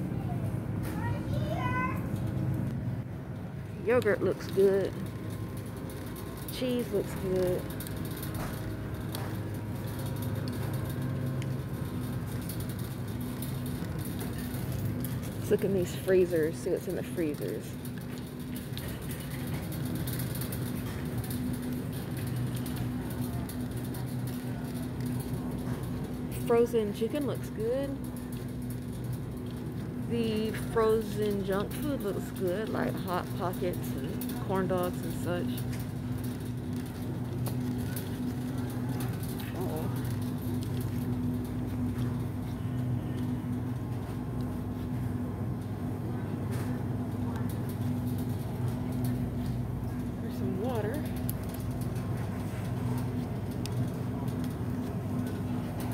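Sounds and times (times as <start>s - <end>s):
low electrical hum: 0.0s - 55.9s
shopping cart rattling: 3.9s - 55.9s.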